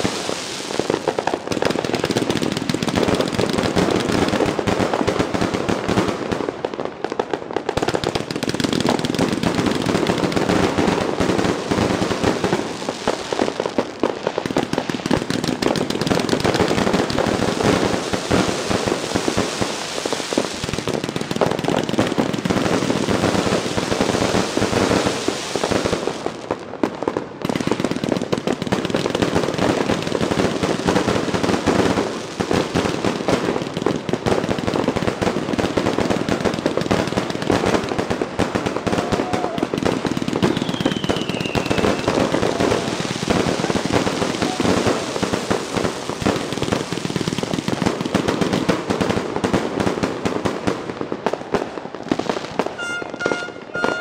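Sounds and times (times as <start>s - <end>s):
fireworks launching and bursting: 0.0s - 54.0s.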